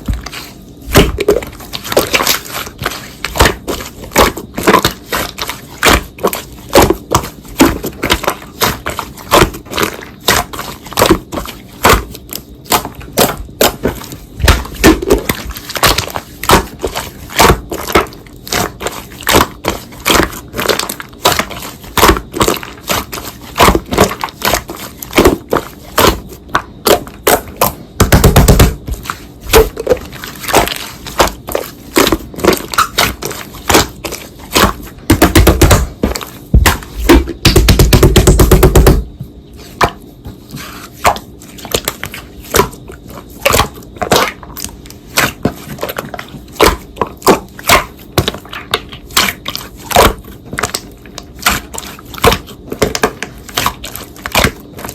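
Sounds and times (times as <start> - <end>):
slime squishing by hand: 0.0 - 54.9.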